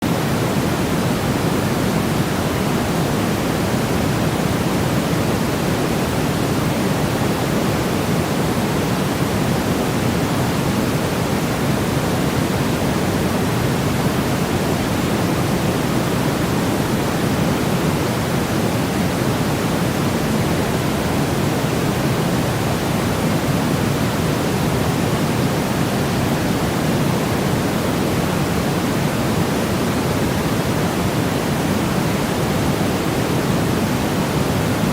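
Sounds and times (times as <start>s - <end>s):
steady pink noise: 0.0s - 34.9s.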